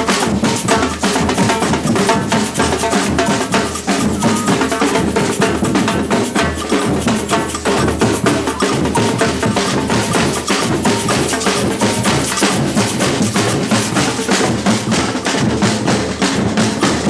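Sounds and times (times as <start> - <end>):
samba percussion ensemble: 0.0 - 17.0.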